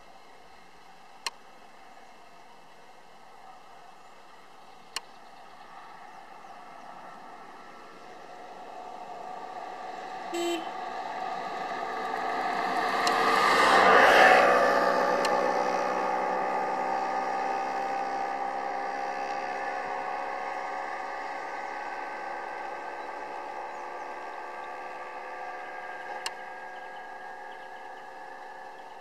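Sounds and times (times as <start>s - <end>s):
vehicle engine idling: 0.0s - 12.7s, 15.6s - 29.0s.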